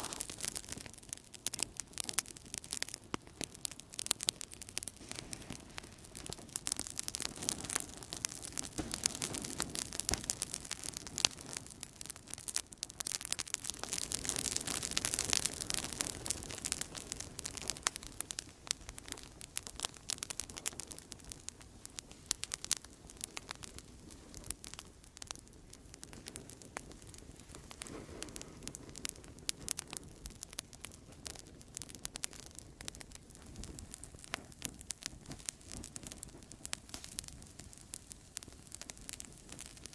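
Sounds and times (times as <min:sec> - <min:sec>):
soft fire hiss: 0:00.0 - 0:12.3, 0:13.0 - 0:39.9
campfire crackling and popping: 0:00.0 - 0:39.9.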